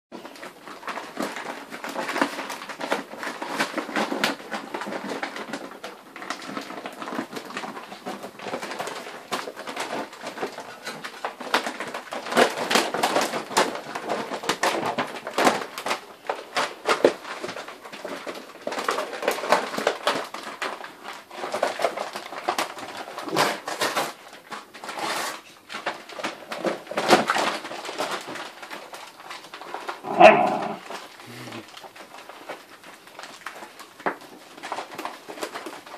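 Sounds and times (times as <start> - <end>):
bag rustling and crinkling: 0.2 - 35.9.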